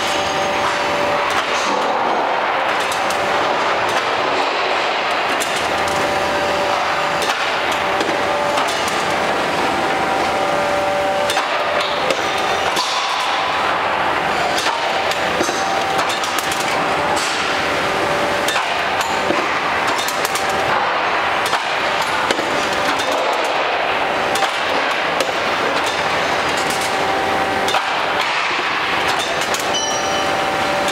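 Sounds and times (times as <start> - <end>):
machine hum: 0.0 - 30.9.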